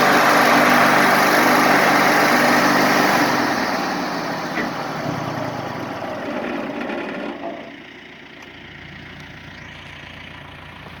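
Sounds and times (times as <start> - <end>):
sawmill engine running: 0.0 - 11.0.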